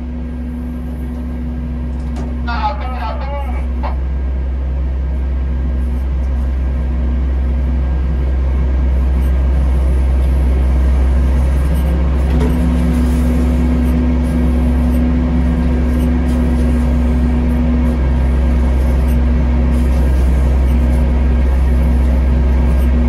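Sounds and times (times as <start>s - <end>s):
tug engine low rumble: 0.0s - 23.0s.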